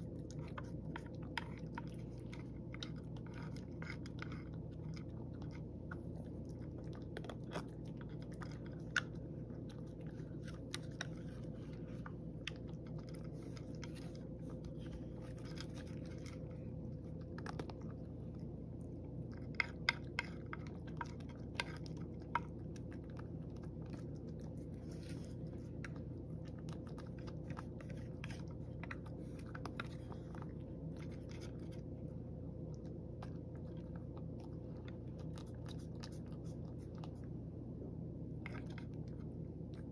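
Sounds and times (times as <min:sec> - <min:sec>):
cat crunching dry kibble: 0:00.0 - 0:37.4
steady low hum: 0:00.0 - 0:39.9.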